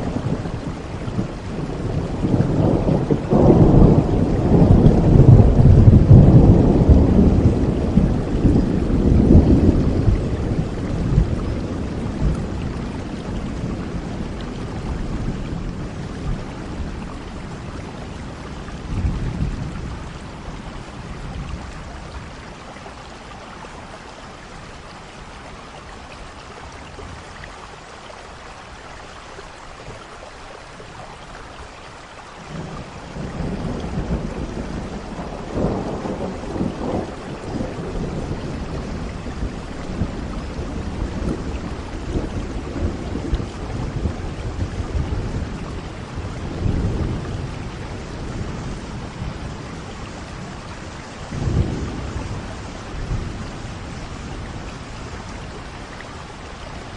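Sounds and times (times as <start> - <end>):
rolling thunder: 0.0 - 22.5, 32.5 - 56.9
steady rain: 0.0 - 56.9.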